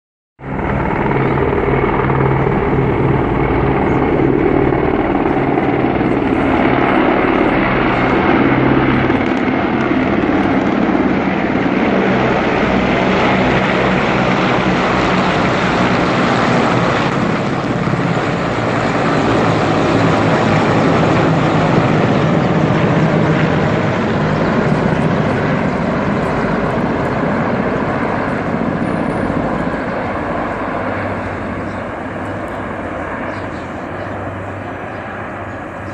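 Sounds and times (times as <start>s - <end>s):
helicopters flying past: 0.4s - 35.9s.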